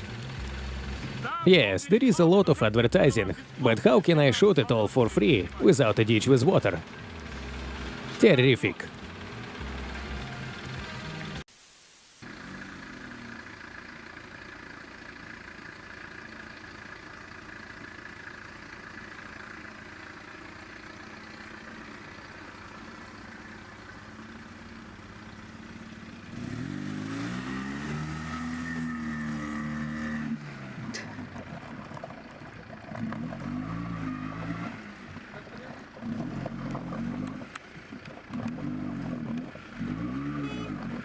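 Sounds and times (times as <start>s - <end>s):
small car engine revving: 0.0s - 1.4s, 5.0s - 11.5s, 12.2s - 41.0s.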